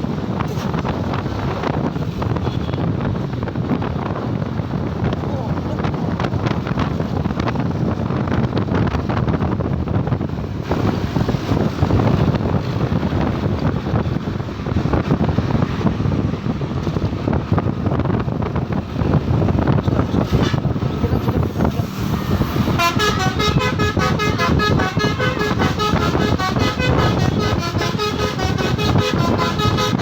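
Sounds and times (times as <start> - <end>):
roadside traffic rumble: 0.0 - 30.0
wind buffeting microphone: 0.0 - 30.0.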